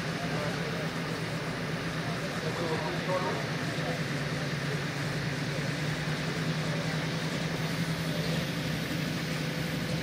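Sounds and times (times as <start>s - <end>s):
diesel tractor engine idling: 0.0s - 10.0s.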